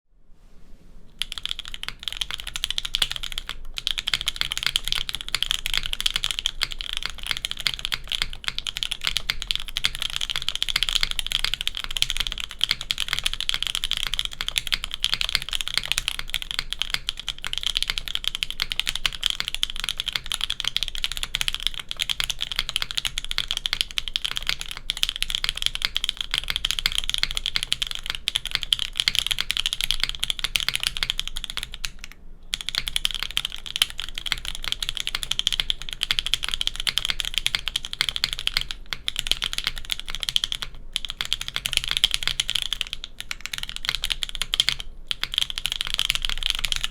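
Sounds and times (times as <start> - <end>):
fast typing on mechanical keyboard: 1.2 - 46.9.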